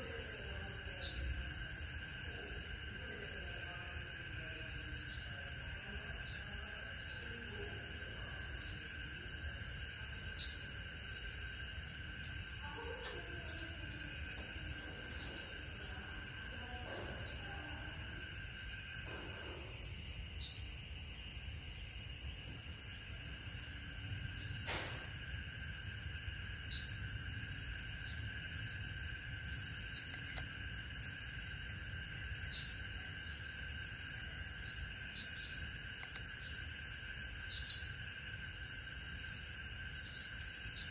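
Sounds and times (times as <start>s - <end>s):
crickets trilling: 0.0s - 40.9s
insect chirp: 0.0s - 40.9s.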